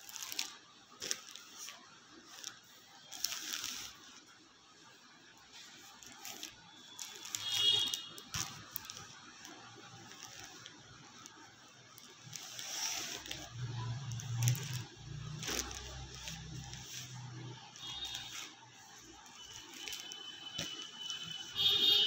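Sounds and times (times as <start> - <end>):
rustling of silk fabric: 0.0 - 22.0.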